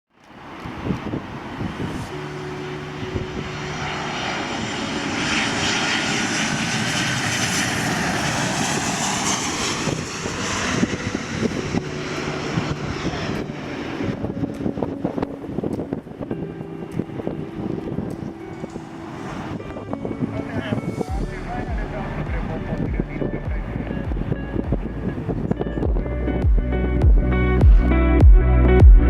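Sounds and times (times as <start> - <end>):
jet engines roaring: 0.2 - 25.7.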